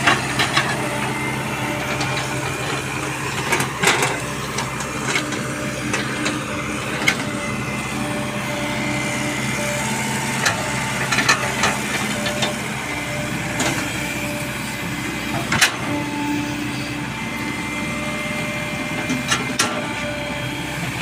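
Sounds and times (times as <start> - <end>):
excavator running: 0.0 - 21.0.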